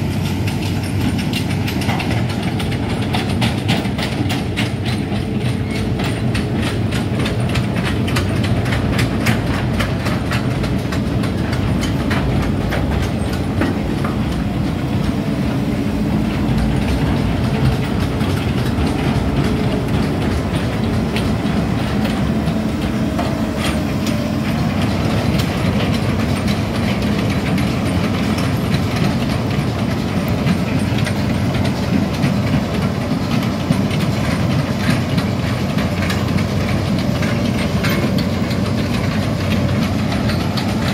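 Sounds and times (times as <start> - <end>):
diesel engine running: 0.0 - 40.9
track cleats rattling and clanking: 0.0 - 40.9.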